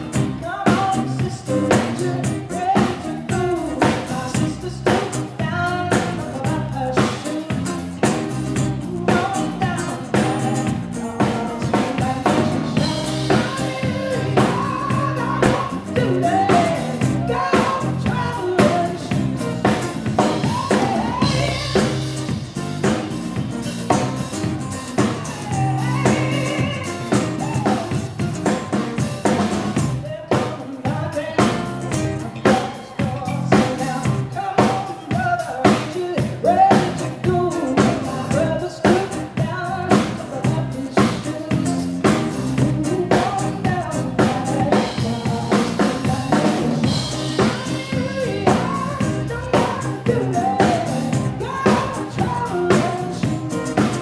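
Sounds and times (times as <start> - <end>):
drum kit beat: 0.0 - 54.0
woman singing: 0.4 - 8.0, 8.8 - 22.4, 25.0 - 28.6, 30.0 - 54.0.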